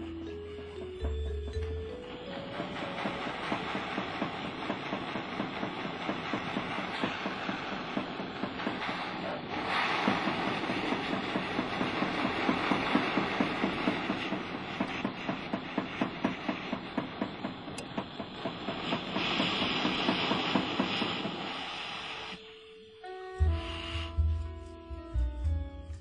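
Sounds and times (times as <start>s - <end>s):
gas torch flame hissing: 1.6s - 24.2s.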